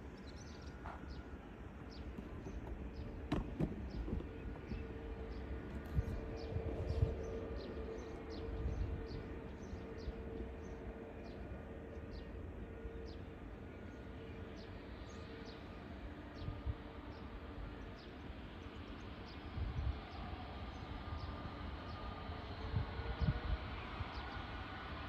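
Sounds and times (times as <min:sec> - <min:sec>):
distant jet engines rumbling: 0:00.0 - 0:25.0.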